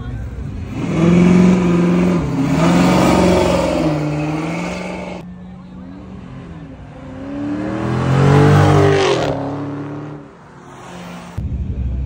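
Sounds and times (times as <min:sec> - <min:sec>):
car accelerating past: 0:00.6 - 0:05.2, 0:06.2 - 0:11.4.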